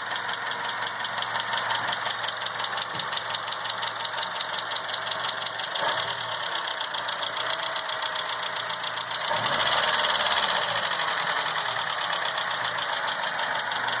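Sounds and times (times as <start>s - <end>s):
car engine ticking: 0.0s - 14.0s.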